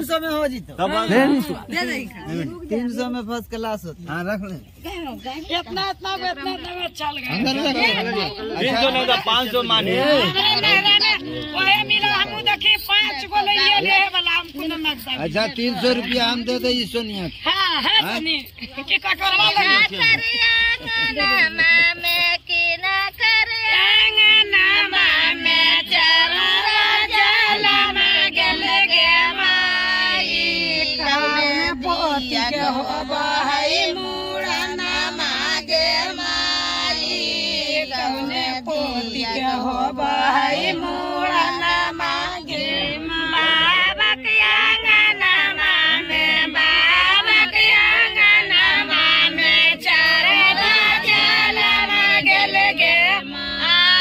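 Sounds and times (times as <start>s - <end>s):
women singing: 5.4s - 16.0s, 18.8s - 54.0s.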